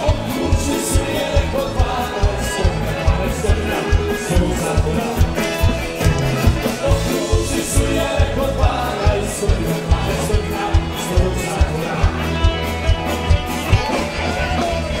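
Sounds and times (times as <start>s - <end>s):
bass: 0.0s - 15.0s
drum kit beat: 0.0s - 15.0s
electric guitar: 0.0s - 15.0s
keyboards: 0.0s - 15.0s.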